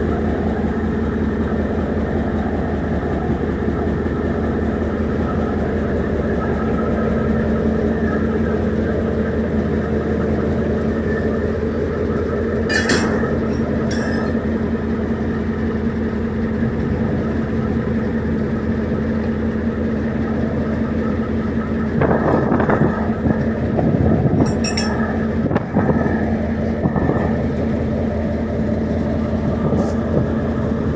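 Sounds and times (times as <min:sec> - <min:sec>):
diesel locomotive engine droning: 0:00.0 - 0:30.9.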